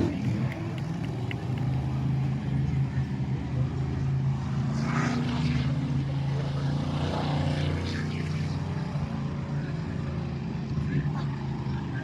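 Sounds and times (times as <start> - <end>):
monster truck engines droning: 0.0 - 12.0.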